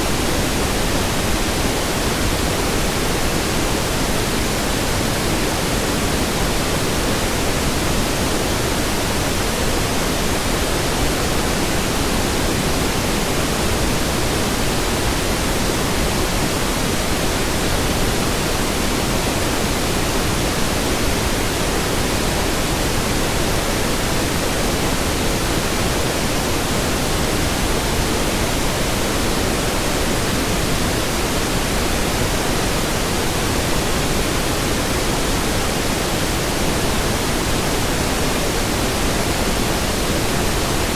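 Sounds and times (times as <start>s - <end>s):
pink noise hiss: 0.0s - 40.9s.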